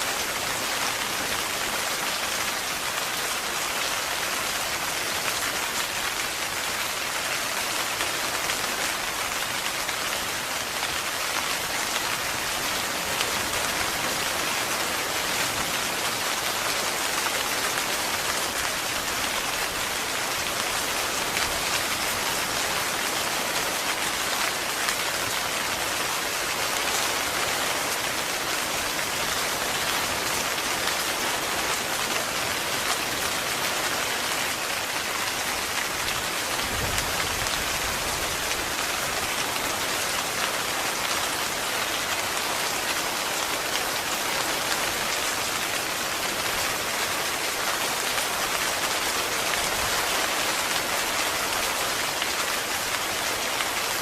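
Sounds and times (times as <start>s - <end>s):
heavy rain pattering on a tent: 0.0s - 54.0s.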